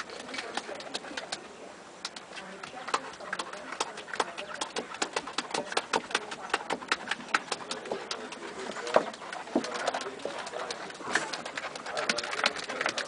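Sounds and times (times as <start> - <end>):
sharp clicks and taps of puppies: 0.0 - 13.0.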